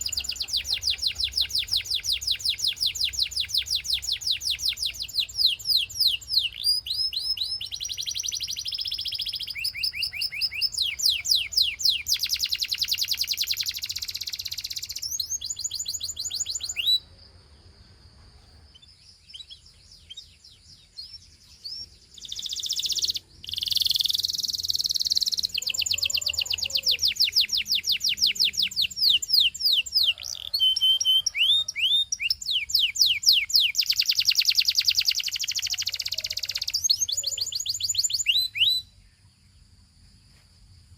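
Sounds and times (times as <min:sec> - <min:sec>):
canary singing rapid trills: 0:00.0 - 0:17.1, 0:18.5 - 0:39.0.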